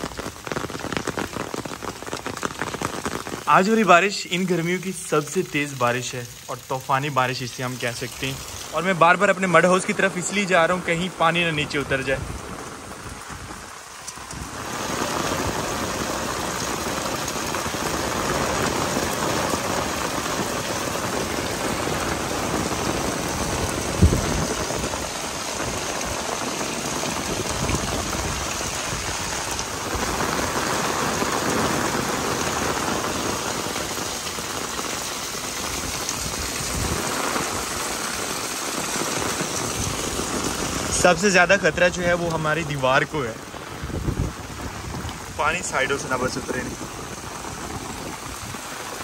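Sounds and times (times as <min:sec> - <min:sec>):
heavy rain falling: 0:00.0 - 0:49.0.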